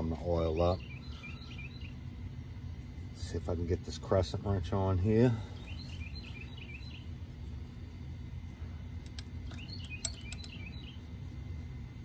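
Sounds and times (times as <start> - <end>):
small birds chirping: 0.0 - 11.5
low background rumble: 0.0 - 12.0.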